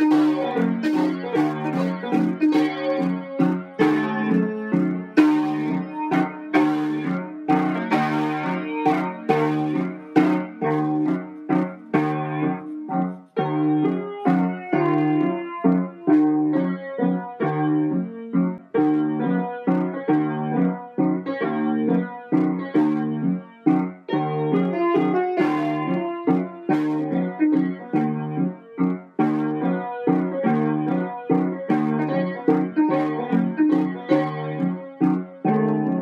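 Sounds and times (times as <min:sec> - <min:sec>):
piano playing repeated chords: 0:00.0 - 0:36.0.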